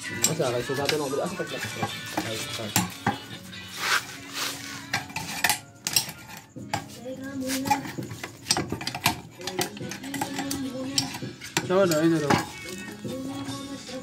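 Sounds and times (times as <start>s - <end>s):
screwdriver scraping metal: 0.0s - 13.3s.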